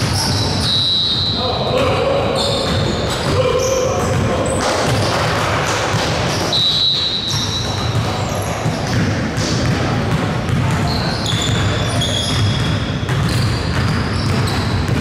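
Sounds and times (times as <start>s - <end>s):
basketball bouncing on gym floor: 0.0s - 15.0s.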